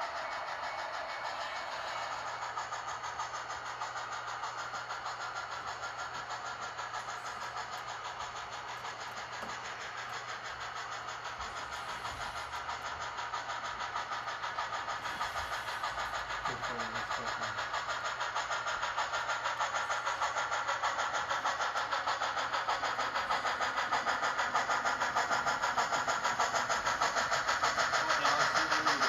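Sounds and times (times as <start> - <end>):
model steam locomotive chuffing: 0.0 - 29.0.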